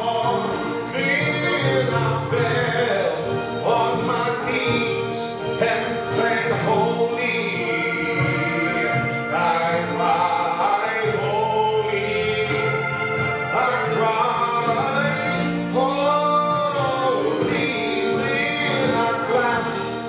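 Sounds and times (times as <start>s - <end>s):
man singing a hymn: 0.0s - 20.0s.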